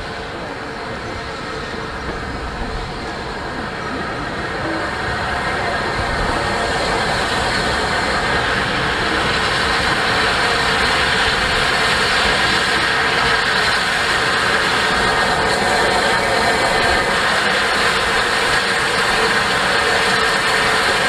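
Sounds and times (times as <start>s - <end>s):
steam train rushing: 0.0s - 21.0s.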